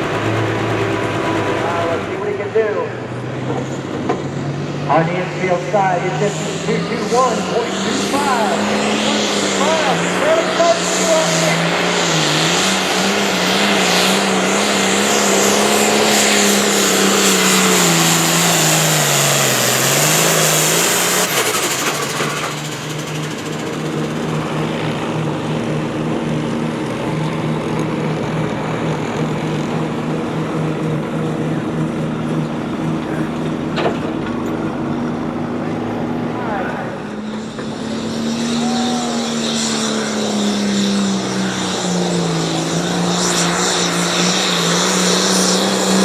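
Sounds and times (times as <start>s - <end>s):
tractor engine revving: 0.0s - 46.0s.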